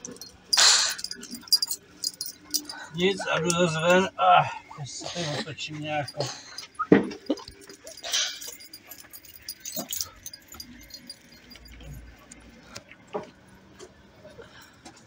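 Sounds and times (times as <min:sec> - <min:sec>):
light metallic jingling: 0:00.0 - 0:04.2, 0:05.0 - 0:13.0.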